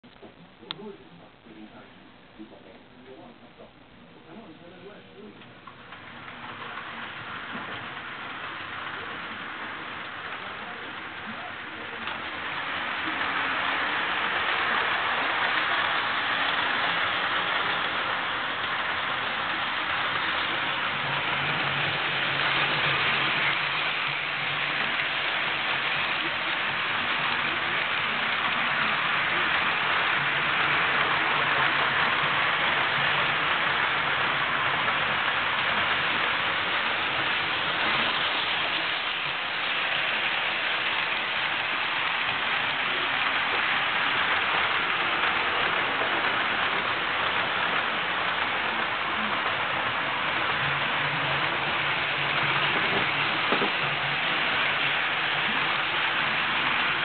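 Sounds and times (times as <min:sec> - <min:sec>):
model trains running on track: 0:04.3 - 0:57.0.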